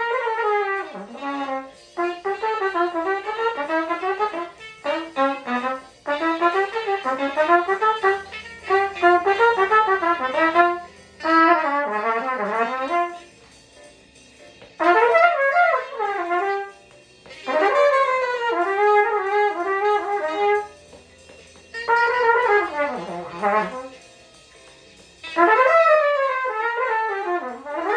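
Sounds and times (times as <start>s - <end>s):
jazz horn solo: 0.0s - 13.4s, 14.8s - 16.8s, 17.4s - 21.0s, 21.7s - 24.0s, 25.2s - 27.9s.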